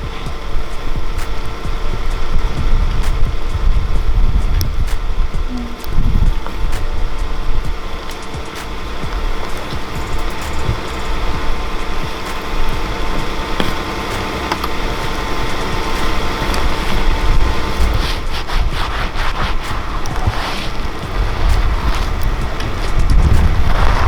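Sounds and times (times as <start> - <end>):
quick scraping strokes: 0.0 - 24.0
vehicle engine idling: 0.0 - 24.0.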